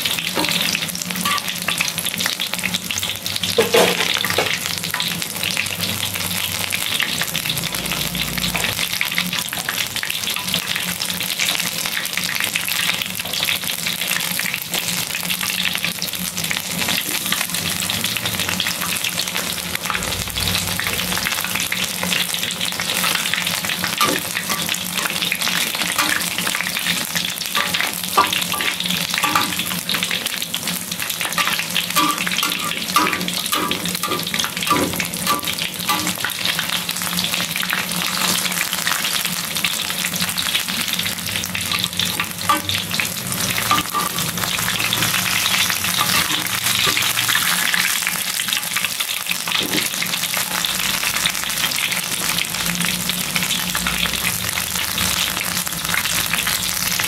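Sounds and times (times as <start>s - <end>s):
deep-frying sizzle: 0.0s - 57.0s.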